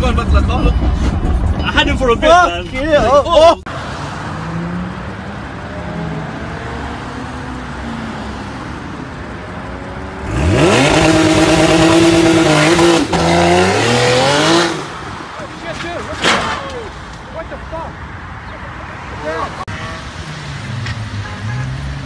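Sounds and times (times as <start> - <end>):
car engine idling and revving: 0.0 - 15.8, 17.0 - 22.0.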